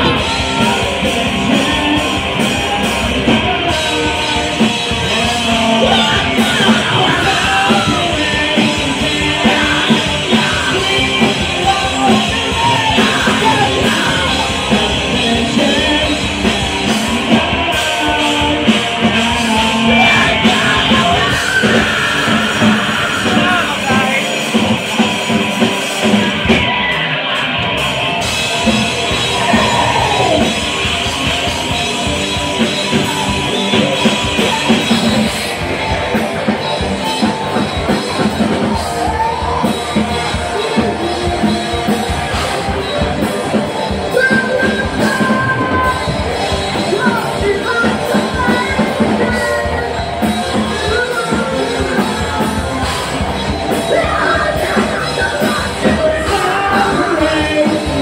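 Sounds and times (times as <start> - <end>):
live rock band playing: 0.0 - 58.0
person singing: 0.0 - 58.0.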